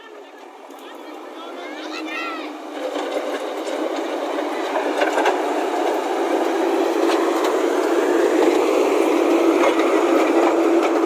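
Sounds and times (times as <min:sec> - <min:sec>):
diesel engine under load: 0:00.0 - 0:11.0.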